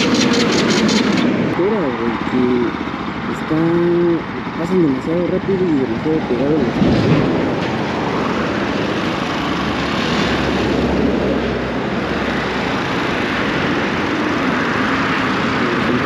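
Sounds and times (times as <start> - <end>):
highway traffic rushing by: 0.0 - 16.0.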